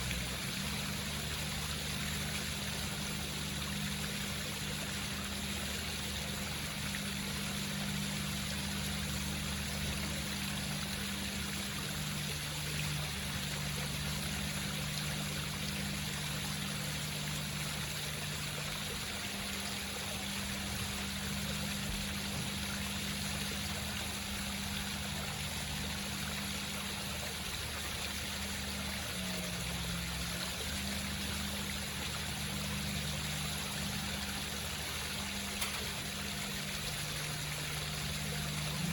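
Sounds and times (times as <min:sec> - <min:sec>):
low steady hum: 0:00.0 - 0:38.9
water trickling down rocks: 0:00.0 - 0:38.9.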